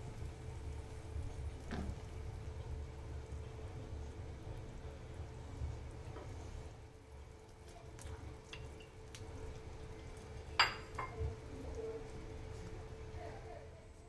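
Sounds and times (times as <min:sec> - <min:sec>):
soup simmering: 0:00.0 - 0:13.6
steady low hum: 0:00.0 - 0:14.0.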